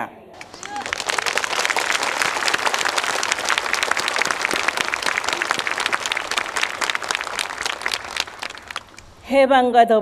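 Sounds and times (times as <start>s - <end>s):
audience applauding: 0.4s - 9.2s.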